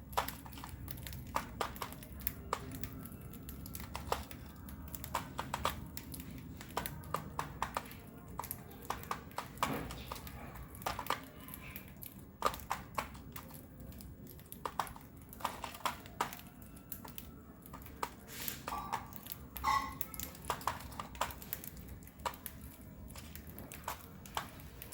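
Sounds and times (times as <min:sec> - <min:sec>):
bird beak cracking seeds: 0:00.0 - 0:24.9.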